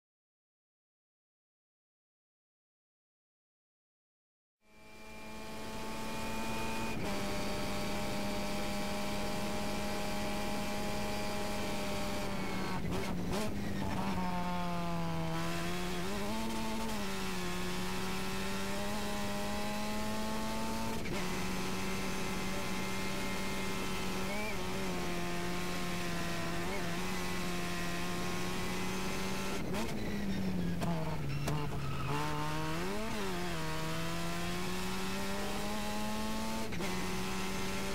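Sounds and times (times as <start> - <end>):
race car engine at high revs: 4.6 - 37.9.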